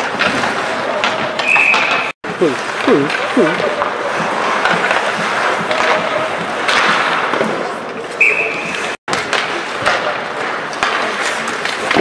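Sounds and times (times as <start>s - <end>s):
skates scraping ice: 0.0s - 12.0s.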